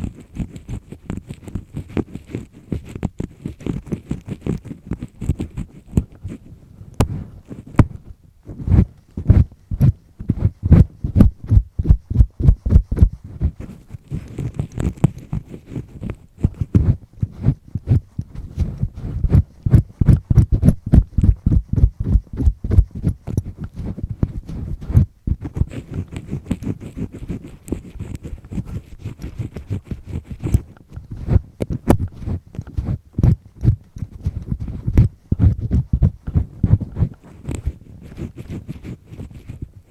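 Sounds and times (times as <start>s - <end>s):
earpick scraping inside ear: 0.0s - 39.9s.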